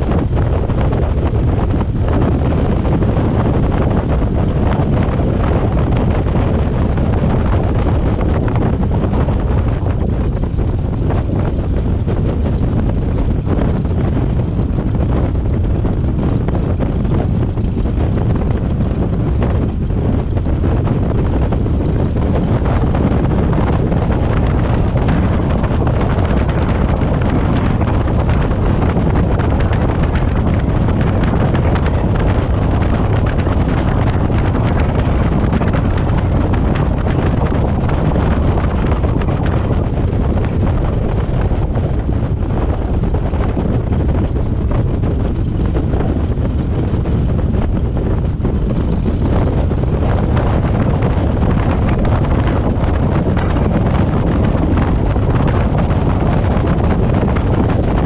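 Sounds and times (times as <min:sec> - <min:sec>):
propeller aircraft engine drone: 0:00.0 - 0:58.0
wind rushing over microphone: 0:00.0 - 0:58.0.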